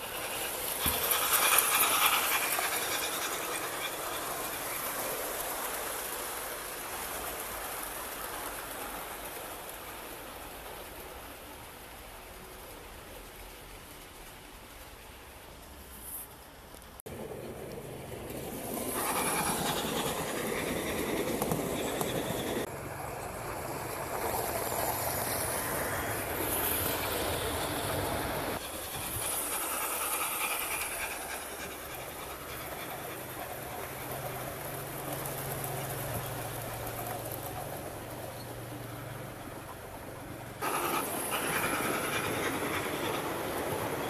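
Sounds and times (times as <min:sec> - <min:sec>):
model train wheels clattering on rails: 0:00.0 - 0:08.5, 0:17.1 - 0:44.0.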